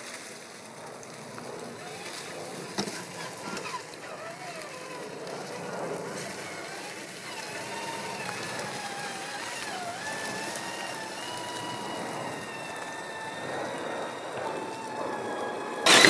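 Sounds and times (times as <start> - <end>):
dry leaves crackling: 0.0 - 16.0
electric motor whining: 1.3 - 16.0.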